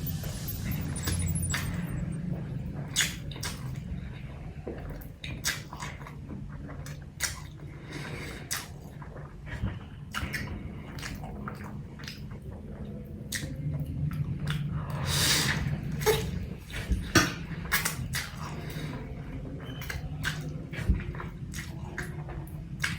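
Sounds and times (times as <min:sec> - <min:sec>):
wet chewing and smacking: 0:02.8 - 0:22.9.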